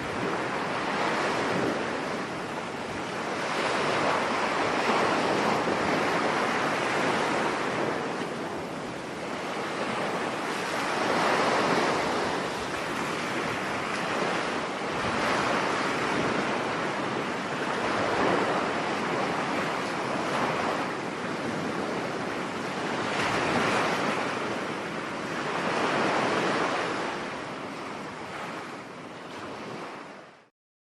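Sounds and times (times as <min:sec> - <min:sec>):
waves breaking on a beach: 0:00.0 - 0:30.5
wind: 0:00.0 - 0:30.5.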